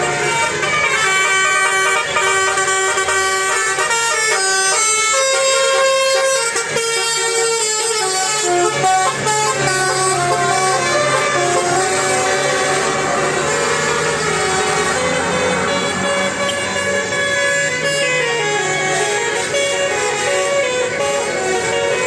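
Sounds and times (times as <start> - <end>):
musical bus horn playing tune: 0.0 - 22.0.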